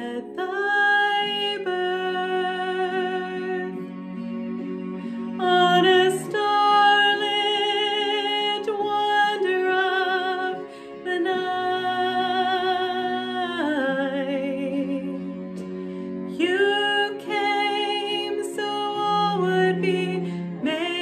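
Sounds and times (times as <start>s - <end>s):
woman singing with vibrato: 0.0s - 3.8s, 5.4s - 15.3s, 16.3s - 21.0s
soft instrumental accompaniment: 0.0s - 21.0s.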